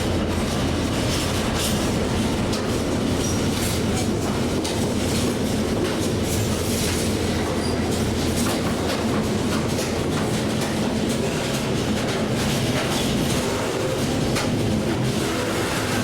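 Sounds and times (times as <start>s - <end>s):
irregular clicks of train wheels: 0.0s - 15.1s
train wheels rumbling on rail: 0.0s - 16.0s.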